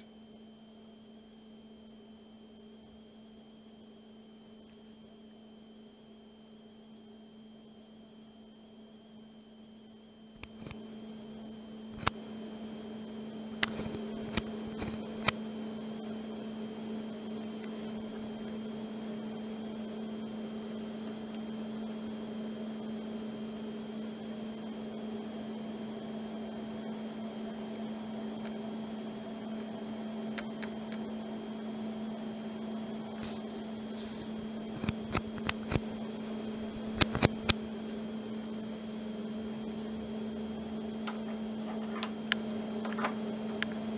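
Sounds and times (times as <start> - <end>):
oscilloscope electrical hum: 0.0 - 43.9.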